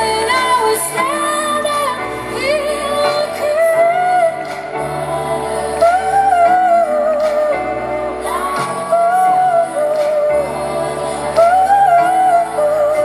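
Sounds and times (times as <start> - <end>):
live band bass and keyboard: 0.0 - 13.0
woman singing into microphone: 0.0 - 13.0.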